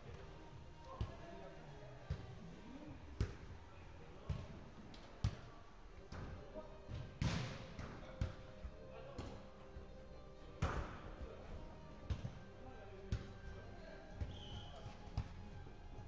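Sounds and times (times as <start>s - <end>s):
faint players' voices: 0.0s - 16.0s.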